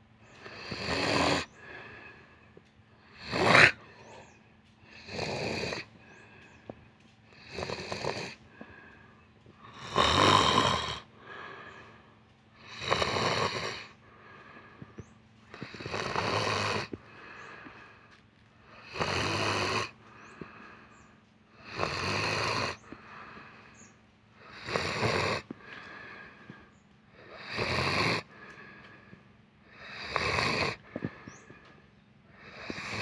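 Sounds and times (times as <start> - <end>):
person snoring: 0.3 - 23.8, 24.4 - 33.0.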